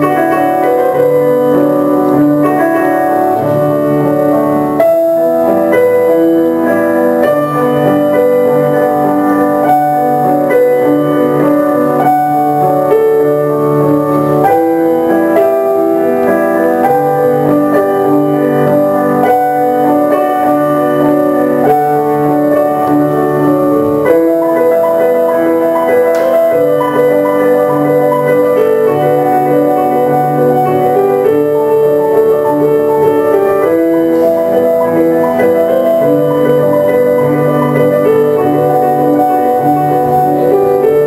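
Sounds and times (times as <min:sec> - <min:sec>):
slow piano chords: 0:00.0 - 0:41.0.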